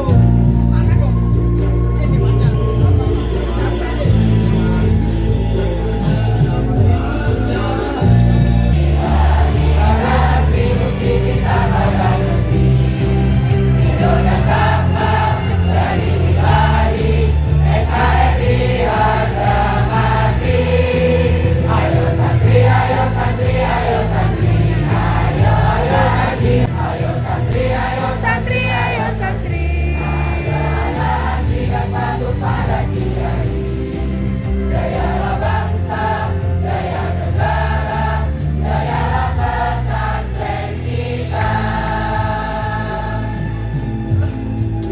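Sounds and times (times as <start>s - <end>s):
bass-heavy accompaniment: 0.0s - 44.9s
group of voices singing: 1.8s - 44.9s.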